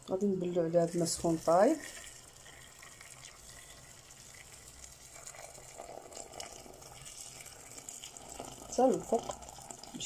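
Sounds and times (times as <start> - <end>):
boiling water pouring into a pot: 0.0 - 10.0.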